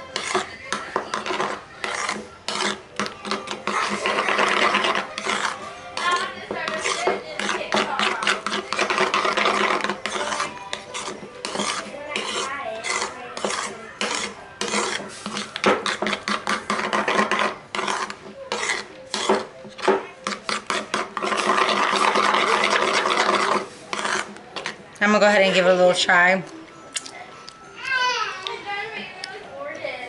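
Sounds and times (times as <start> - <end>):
spoon scraping a bowl: 0.0 - 26.2.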